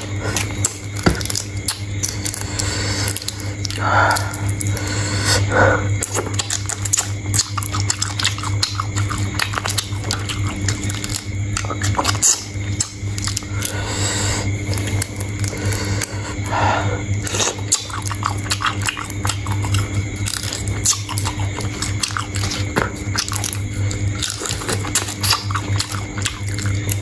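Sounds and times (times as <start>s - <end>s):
person chewing crunchy shrimp: 0.0s - 27.0s
steady low hum: 0.0s - 27.0s.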